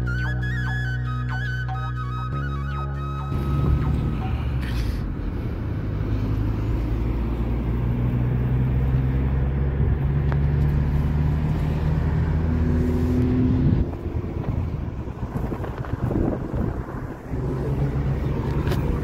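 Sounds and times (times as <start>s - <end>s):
car engine and road hum: 0.0s - 19.0s.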